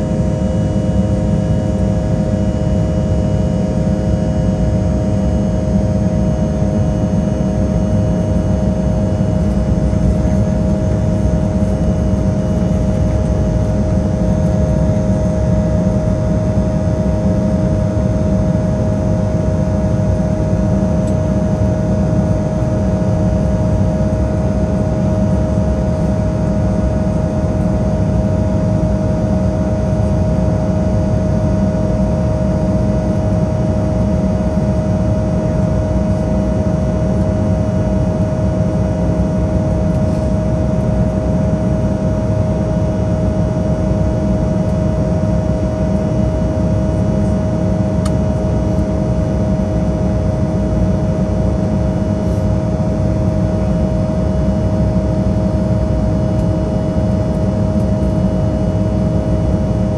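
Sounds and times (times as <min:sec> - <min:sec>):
aircraft cabin rumble: 0:00.0 - 0:59.9
constant hum tone: 0:00.0 - 0:59.9.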